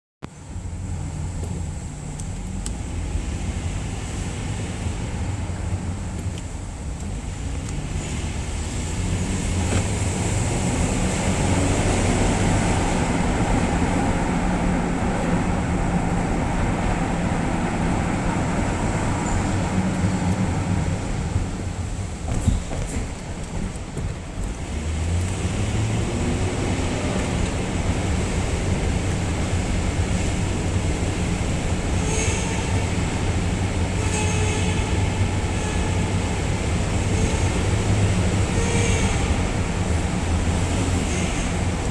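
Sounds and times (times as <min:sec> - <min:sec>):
car low rumble: 0:00.2 - 0:41.9.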